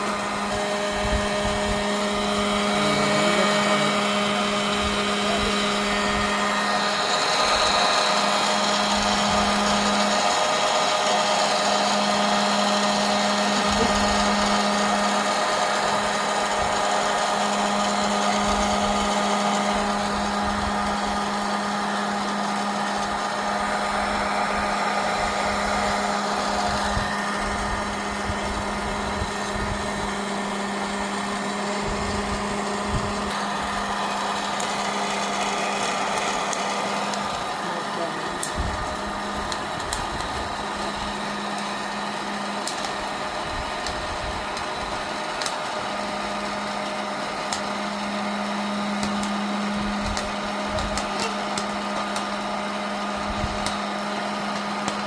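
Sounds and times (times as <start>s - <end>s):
popcorn machine motor hum: 0.0s - 55.0s.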